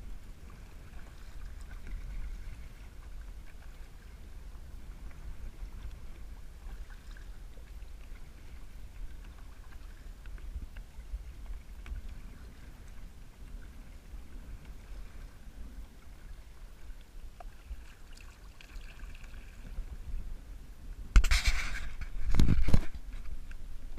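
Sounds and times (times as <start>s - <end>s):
paddle splashes: 0.0s - 23.9s
water lapping at hull: 0.0s - 23.9s
wind rumble on microphone: 0.0s - 23.9s.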